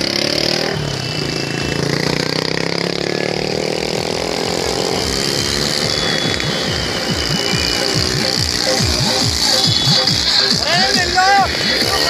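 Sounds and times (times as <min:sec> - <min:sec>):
vehicle engine pulling: 0:00.0 - 0:12.0.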